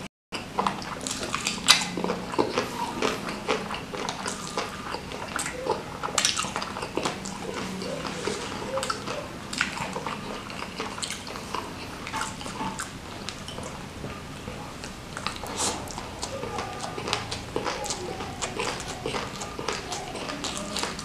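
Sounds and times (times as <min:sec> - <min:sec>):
wet chewing and smacking: 0:00.4 - 0:21.0.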